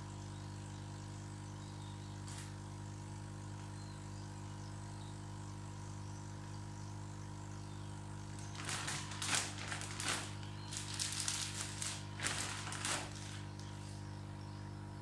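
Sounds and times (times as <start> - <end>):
aquarium air pump humming: 0.0 - 15.0.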